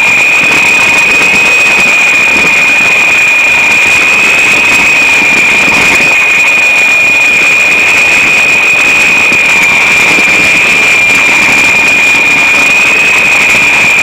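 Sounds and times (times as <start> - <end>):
electric helicopter motor whining: 0.0 - 14.0.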